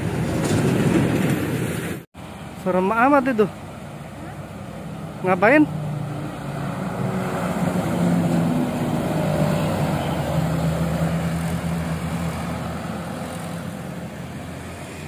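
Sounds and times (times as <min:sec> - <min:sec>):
minibus and car passing: 0:00.0 - 0:15.0
diesel truck engine driving by: 0:02.2 - 0:15.0.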